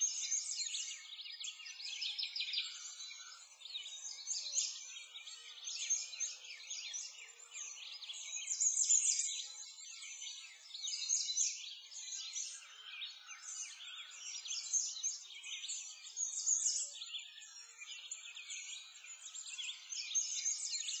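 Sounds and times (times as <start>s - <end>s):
small birds chirping and singing: 0.0s - 21.0s.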